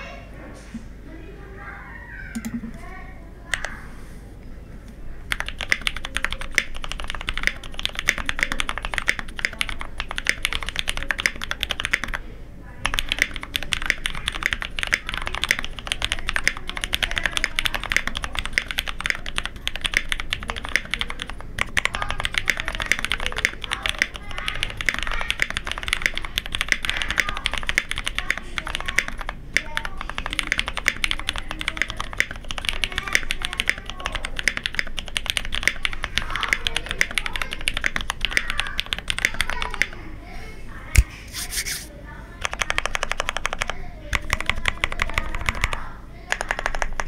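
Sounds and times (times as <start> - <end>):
fast mechanical keyboard typing: 5.3 - 12.2, 12.8 - 40.0, 42.4 - 47.0.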